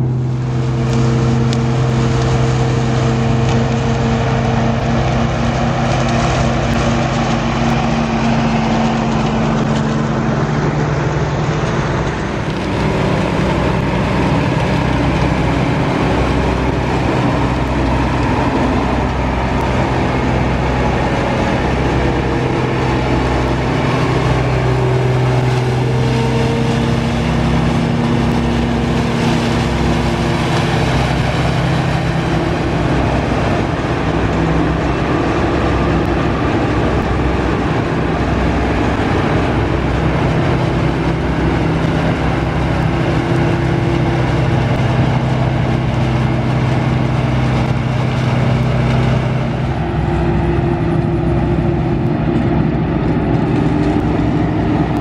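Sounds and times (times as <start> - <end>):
combine harvester engine and threshing: 0.0 - 55.0.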